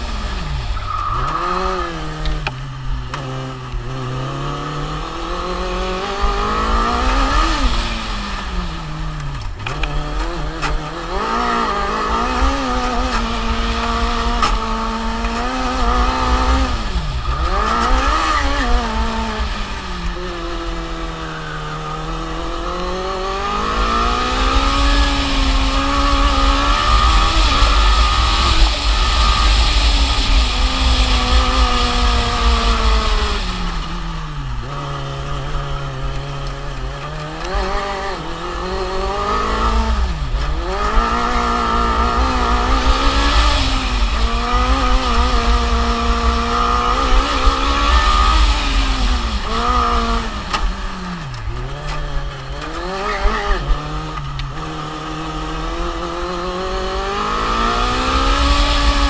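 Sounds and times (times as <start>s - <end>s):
race car motor accelerating: 0.0s - 59.0s.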